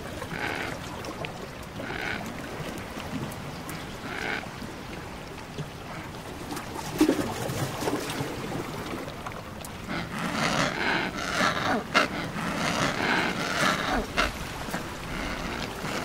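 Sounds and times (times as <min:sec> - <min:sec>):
water lapping among ice: 0:00.0 - 0:16.0.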